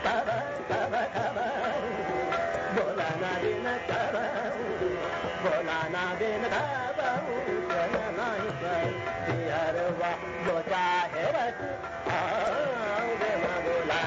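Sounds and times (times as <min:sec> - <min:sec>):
man singing classical vocal: 0:00.0 - 0:14.0
tabla: 0:00.0 - 0:14.0
tanpura drone: 0:00.0 - 0:14.0.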